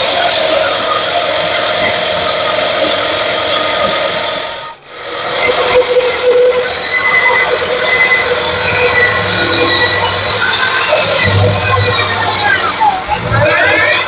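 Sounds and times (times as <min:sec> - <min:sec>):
bandsaw running: 0:00.0 - 0:14.0.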